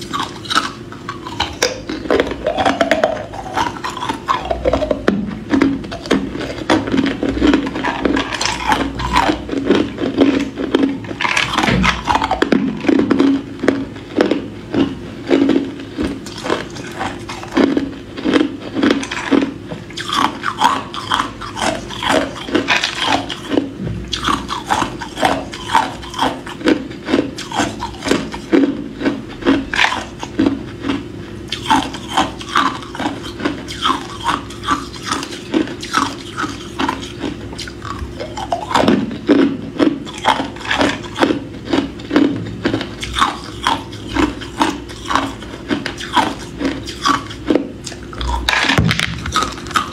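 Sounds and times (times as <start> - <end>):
ice cubes crunching between teeth: 0.0 - 49.9.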